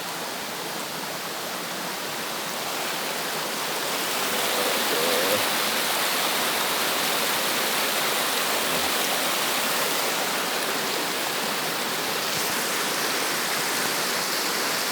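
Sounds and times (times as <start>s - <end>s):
river water rushing over rocks: 0.0s - 14.9s.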